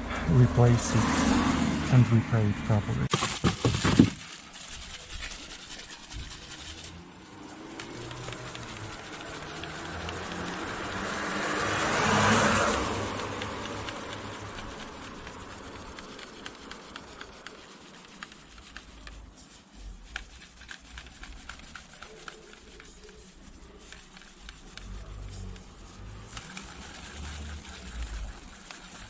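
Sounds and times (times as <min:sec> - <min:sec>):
car passing by: 0:00.0 - 0:03.1, 0:06.2 - 0:19.2, 0:20.9 - 0:29.0.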